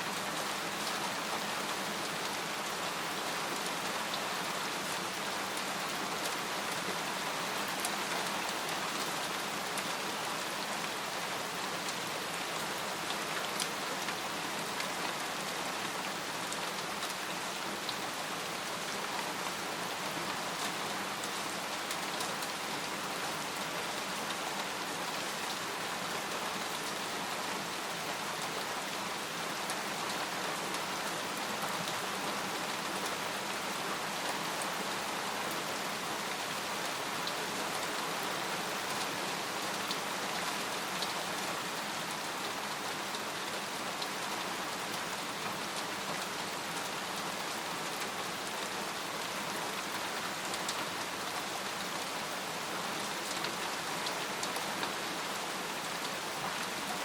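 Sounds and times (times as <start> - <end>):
rain falling on a tent: 0.0 - 57.0.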